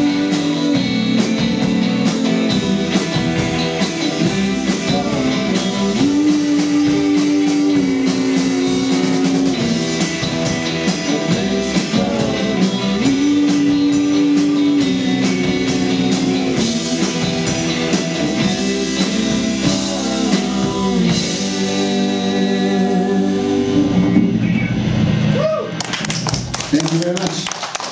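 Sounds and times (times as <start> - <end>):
drum kit beat: 0.0 - 24.6, 25.3 - 27.9
electric bass: 0.0 - 27.3
electric guitars: 0.0 - 27.9.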